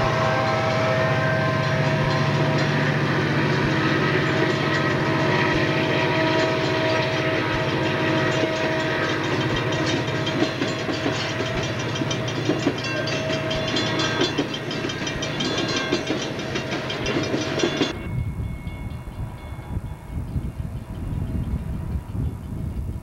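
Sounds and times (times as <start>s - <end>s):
diesel locomotives passing: 0.0s - 23.0s
train wheels clickety-clack: 0.0s - 23.0s.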